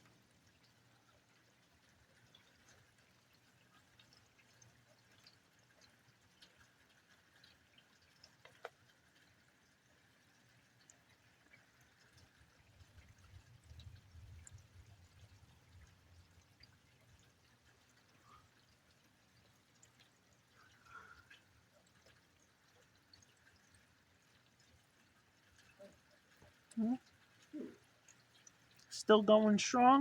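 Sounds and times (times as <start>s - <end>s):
rain drips: 0.0s - 30.0s.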